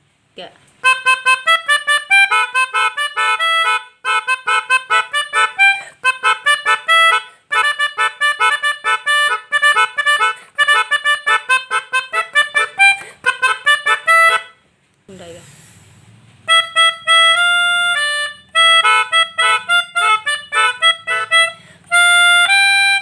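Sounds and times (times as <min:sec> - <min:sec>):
melodica staccato notes: 0:00.8 - 0:14.6, 0:16.4 - 0:23.0.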